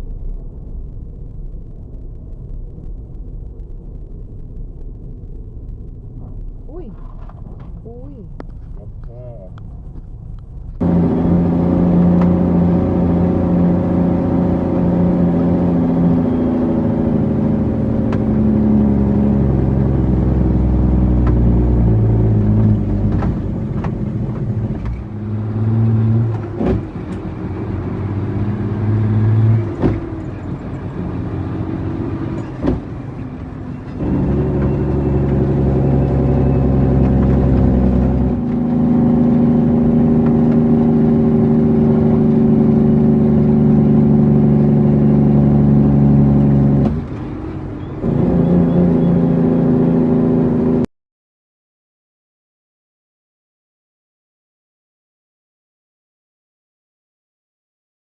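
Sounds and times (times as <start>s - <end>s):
car engine running: 0.0s - 50.9s.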